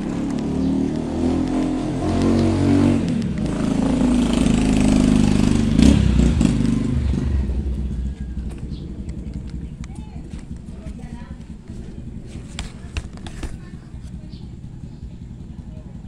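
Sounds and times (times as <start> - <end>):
stroller wheels rattling on concrete: 0.0 - 5.9, 8.3 - 16.0.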